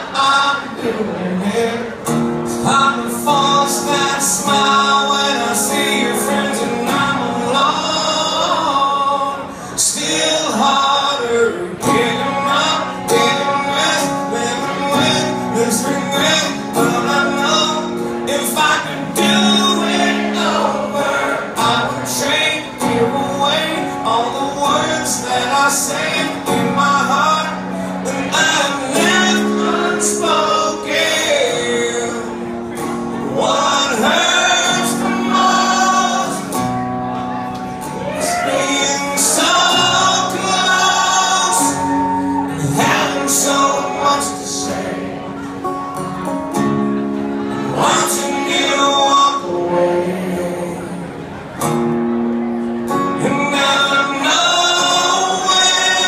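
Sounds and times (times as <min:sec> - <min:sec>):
man singing into microphone: 0:00.0 - 0:36.8, 0:38.0 - 0:45.5, 0:47.5 - 0:51.4, 0:52.9 - 0:56.0
acoustic guitar strumming: 0:00.0 - 0:56.0.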